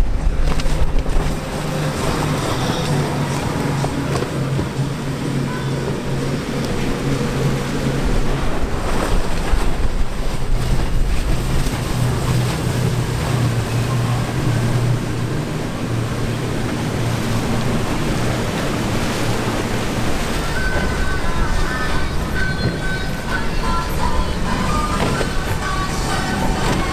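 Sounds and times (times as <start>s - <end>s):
motorboat engines droning: 0.0s - 26.9s
waves rushing: 0.0s - 26.9s
wind buffeting microphone: 0.0s - 26.9s.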